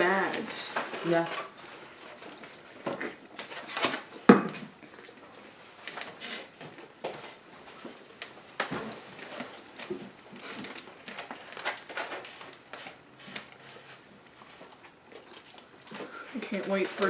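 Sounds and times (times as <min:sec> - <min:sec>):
wrappers and packets rustling: 0:00.0 - 0:17.0.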